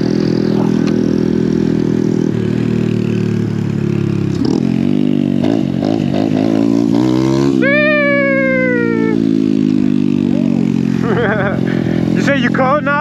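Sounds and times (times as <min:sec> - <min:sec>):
motorcycle engine revving: 0:00.0 - 0:13.0
motorcycle passing by: 0:00.0 - 0:13.0.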